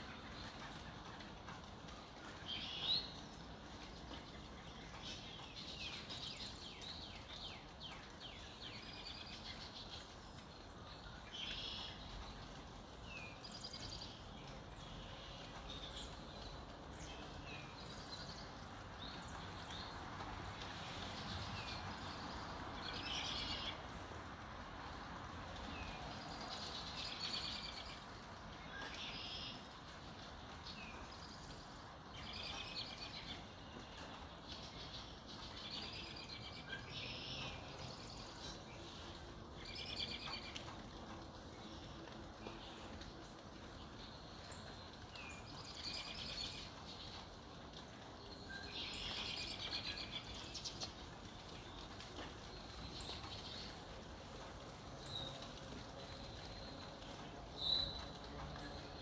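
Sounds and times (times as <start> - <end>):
soft outdoor hiss: 0.0 - 59.0.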